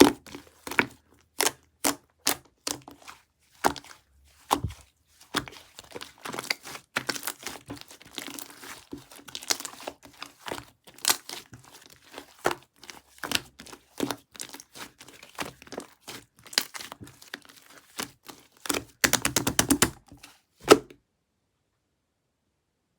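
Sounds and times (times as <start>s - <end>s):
slime squished by hand: 0.0s - 20.9s.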